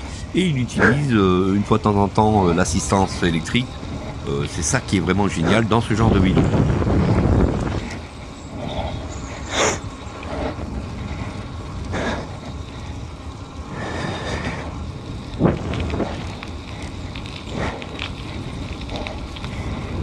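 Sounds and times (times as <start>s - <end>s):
wind on microphone: 0.0s - 13.0s, 13.6s - 20.0s
tyres rumbling on asphalt: 0.0s - 20.0s.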